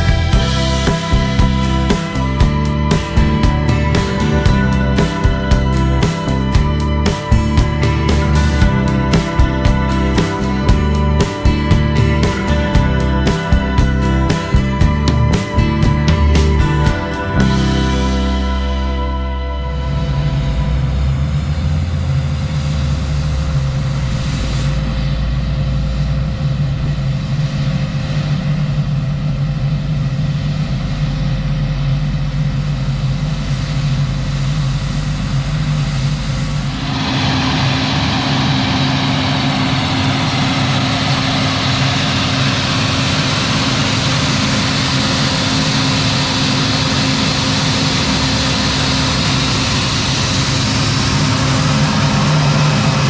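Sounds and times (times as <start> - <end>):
diesel farm machinery running: 0.0 - 53.0
machine with high steady tone: 0.0 - 53.0.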